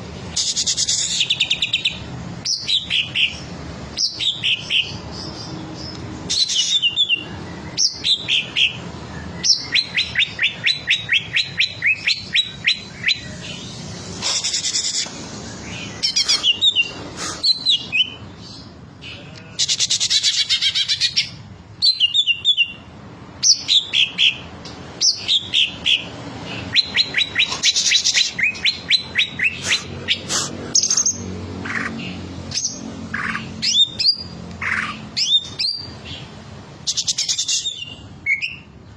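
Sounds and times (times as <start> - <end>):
bird singing varied song: 0.3 - 38.8.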